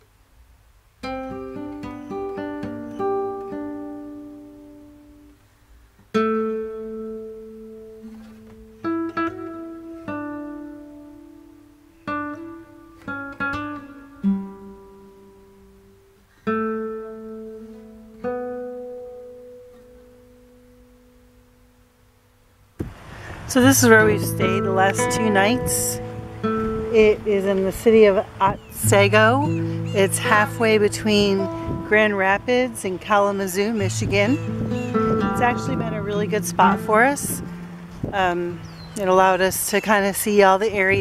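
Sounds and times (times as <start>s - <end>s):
slow acoustic guitar piece: 0.9s - 41.0s.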